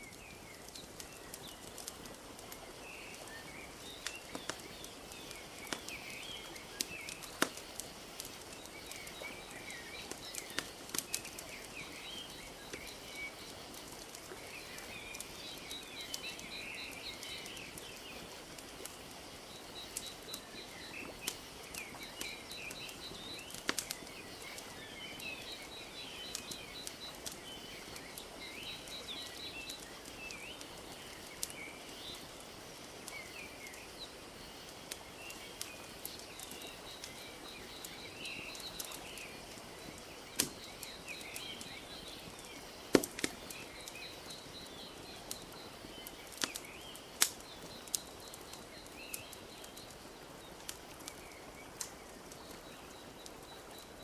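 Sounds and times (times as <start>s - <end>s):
small birds chirping: 0.0s - 54.0s
wood fire crackling and popping: 0.0s - 54.0s.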